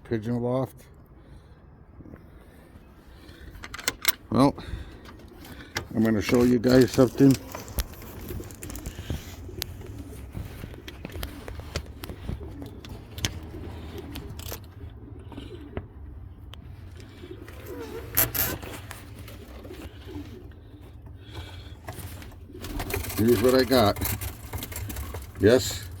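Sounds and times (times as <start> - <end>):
pigeons cooing: 4.6 - 26.0.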